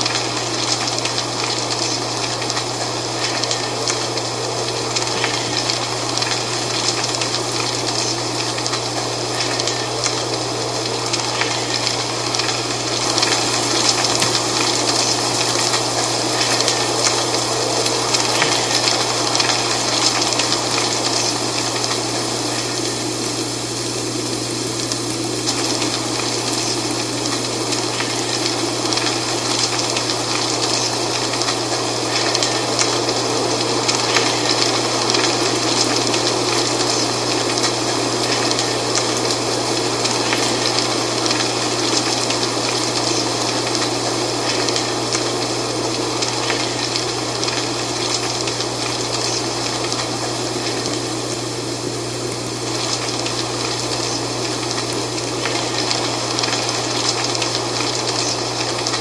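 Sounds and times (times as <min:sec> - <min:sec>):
dry leaves rustling in wind: 0:00.0 - 0:59.0.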